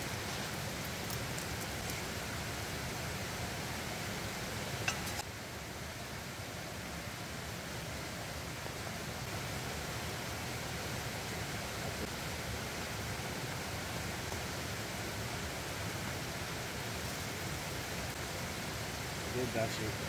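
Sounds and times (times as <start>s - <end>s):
steady water hiss: 0.0s - 20.0s.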